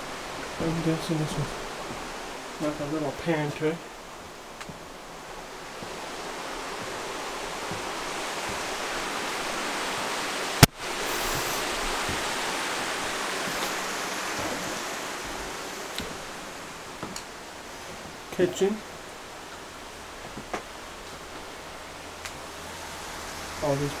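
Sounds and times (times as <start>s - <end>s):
waterfall and stream rushing: 0.0s - 24.0s.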